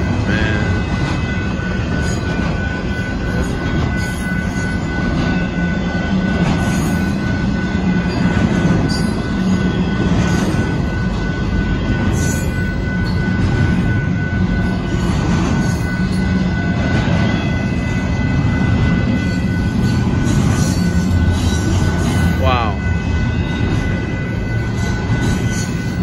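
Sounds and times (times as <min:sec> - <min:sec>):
thin high tone: 0:00.0 - 0:26.0
train wheels rumbling on rail: 0:00.0 - 0:26.0.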